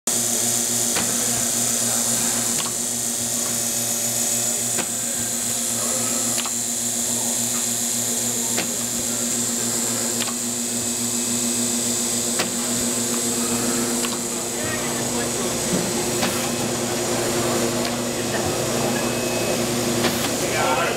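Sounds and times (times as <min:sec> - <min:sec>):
laminating machine hum and hiss: 0:00.1 - 0:20.9.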